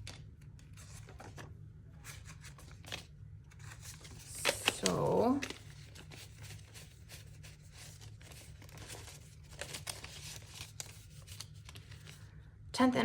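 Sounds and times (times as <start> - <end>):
paper bills rustling: 0.0 - 12.3.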